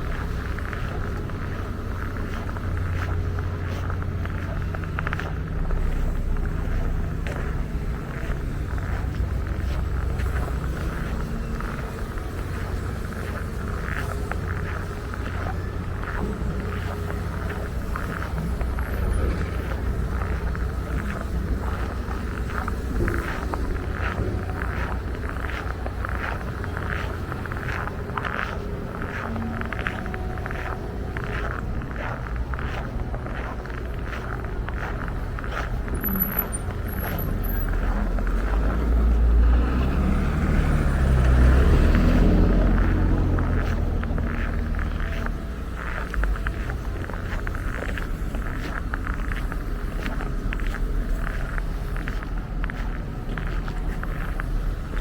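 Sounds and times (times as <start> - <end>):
footsteps crunching in snow: 0.0 - 55.0
steady low rumble: 0.0 - 55.0.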